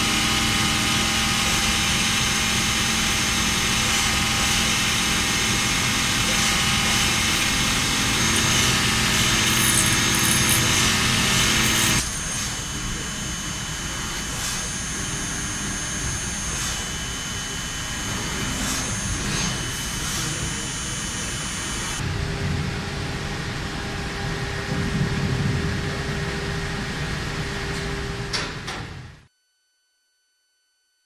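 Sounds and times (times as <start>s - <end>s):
high drive whines: 0.0s - 28.3s
machine mechanical drone: 0.0s - 29.2s.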